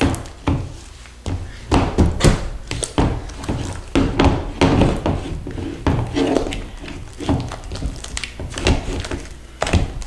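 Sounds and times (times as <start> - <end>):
hands working slime: 0.0 - 10.0.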